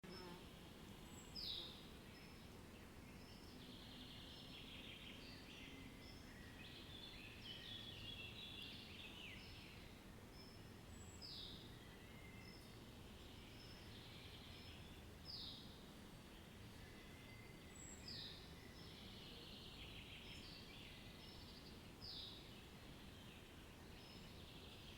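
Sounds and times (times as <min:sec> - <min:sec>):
low steady background noise: 0:00.0 - 0:24.9.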